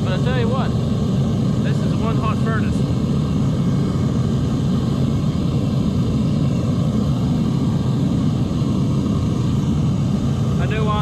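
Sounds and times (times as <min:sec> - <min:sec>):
gas furnace roaring: 0:00.0 - 0:11.0.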